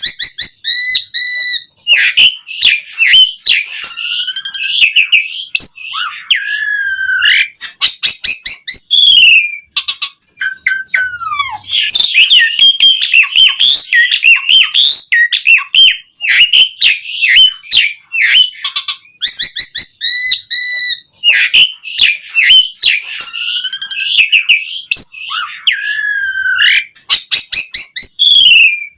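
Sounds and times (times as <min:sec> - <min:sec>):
starling singing: 0:00.0 - 0:28.9.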